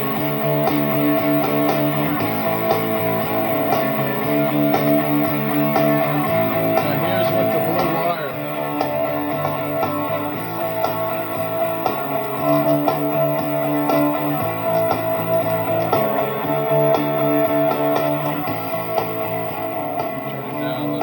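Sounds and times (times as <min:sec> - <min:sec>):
electric guitar with reverb: 0:00.0 - 0:21.0.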